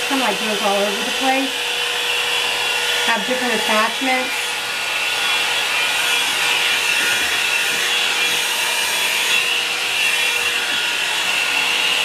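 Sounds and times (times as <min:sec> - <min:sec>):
brush rasping through hair: 0:00.0 - 0:12.0
hot air brush blowing: 0:00.0 - 0:12.0.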